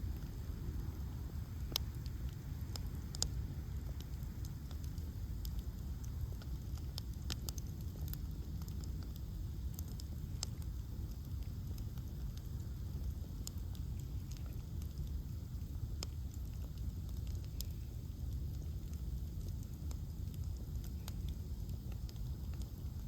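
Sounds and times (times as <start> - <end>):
bonfire crackling and popping: 0.0 - 23.0
fire low rumble: 0.0 - 23.0.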